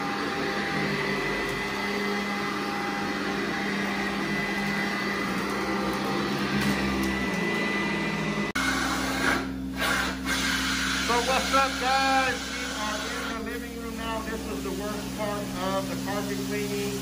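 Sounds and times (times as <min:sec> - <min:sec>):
steady machine drone: 0:00.0 - 0:17.0
vacuum cleaner whine and hum: 0:00.0 - 0:17.0.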